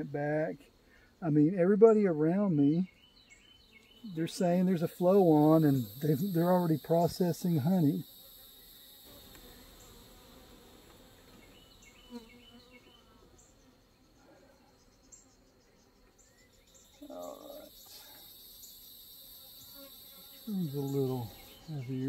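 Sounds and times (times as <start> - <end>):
crickets trilling: 0.0 - 22.0
honeybees humming: 0.0 - 22.0
bee buzzing past: 3.8 - 22.0.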